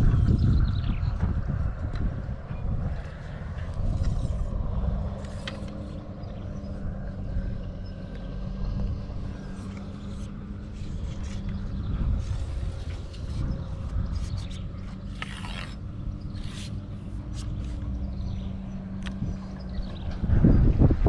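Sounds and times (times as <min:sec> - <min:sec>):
low rumble: 0:00.0 - 0:21.0
motor running: 0:02.8 - 0:20.9.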